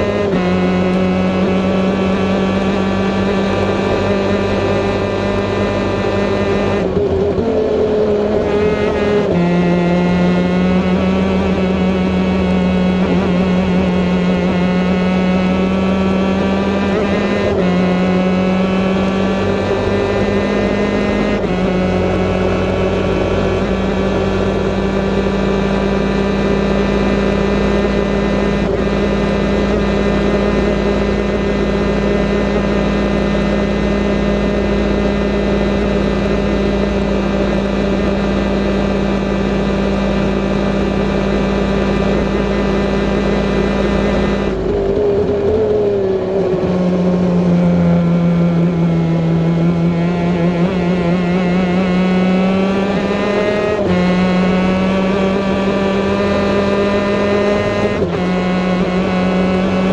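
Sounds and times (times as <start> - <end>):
two-stroke kart engine high pitch: 0.0 - 59.9.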